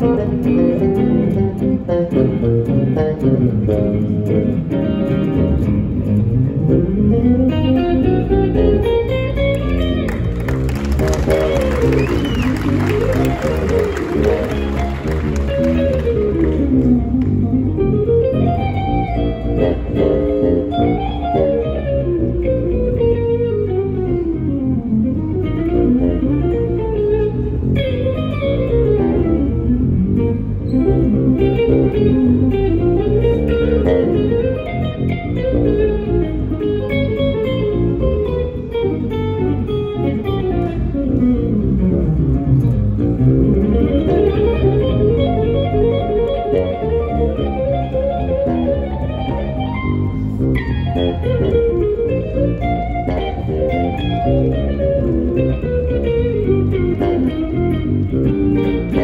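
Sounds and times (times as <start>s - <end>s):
bass guitar line: 0.0s - 59.0s
electric guitar runs: 0.0s - 59.0s.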